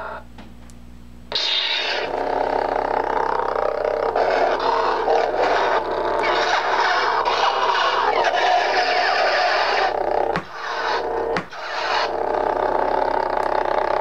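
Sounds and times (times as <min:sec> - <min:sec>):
lightsaber blade hum: 0:01.3 - 0:14.0.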